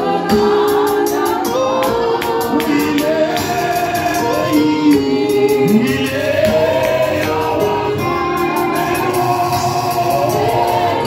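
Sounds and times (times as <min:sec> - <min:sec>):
choir singing gospel song: 0:00.0 - 0:11.0.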